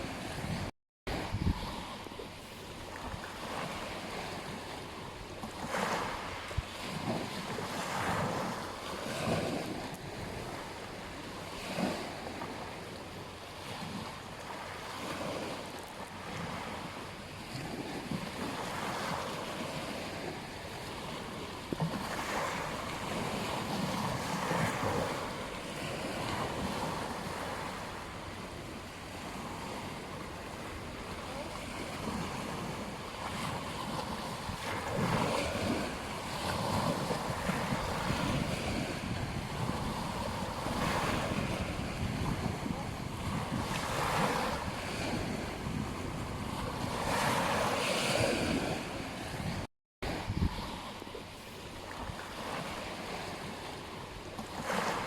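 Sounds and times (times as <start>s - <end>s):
ocean waves breaking on beach: 0.0s - 55.0s
wind on microphone: 0.0s - 55.0s.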